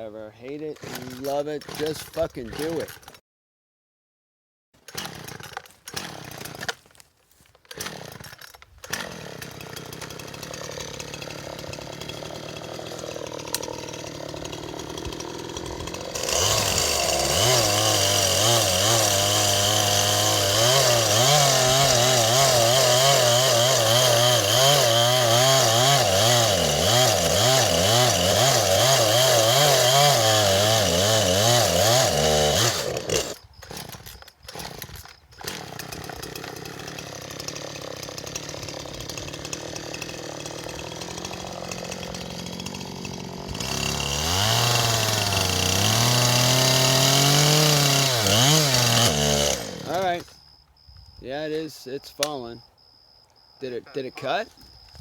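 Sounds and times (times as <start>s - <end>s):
chainsaw cutting tree trunk: 0.6s - 3.2s, 4.8s - 50.3s, 52.2s - 52.6s
chainsaw idling: 0.7s - 3.1s, 4.8s - 50.4s.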